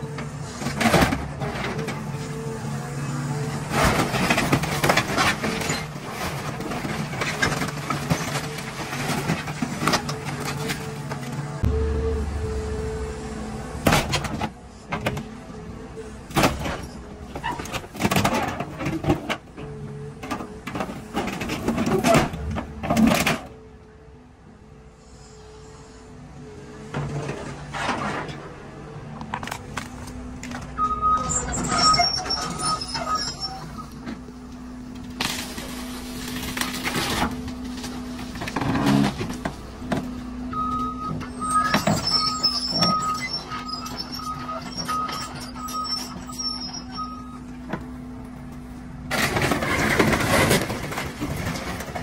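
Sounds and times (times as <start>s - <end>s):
excavator humming: 0.0s - 52.0s.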